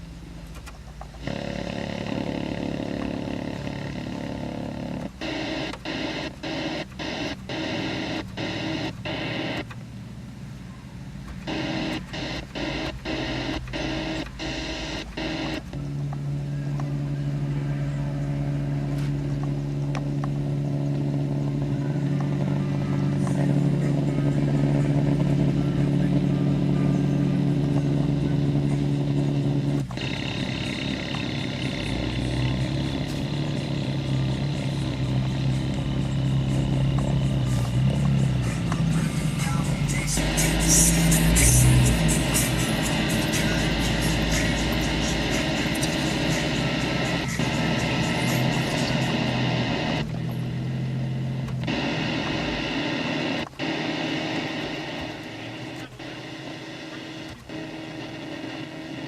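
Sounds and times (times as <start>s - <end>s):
buzzing radio tone pulses: 0.0s - 10.1s, 11.3s - 59.0s
high whine: 0.0s - 59.0s
low hum: 0.0s - 59.0s
vehicle drone: 0.0s - 59.0s.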